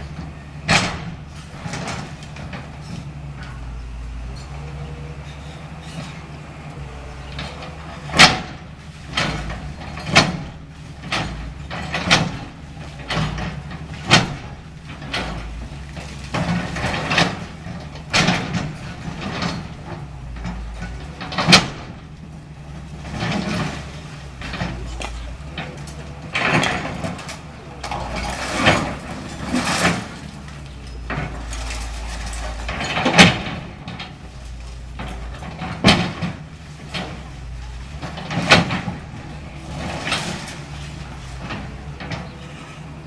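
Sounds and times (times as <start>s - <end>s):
debris crashing and knocking: 0.0s - 43.0s
excavator diesel engine running: 0.0s - 43.0s.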